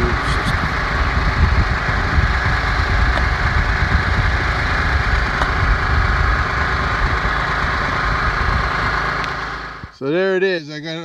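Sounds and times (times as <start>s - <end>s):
small gas engine running: 0.0s - 10.0s.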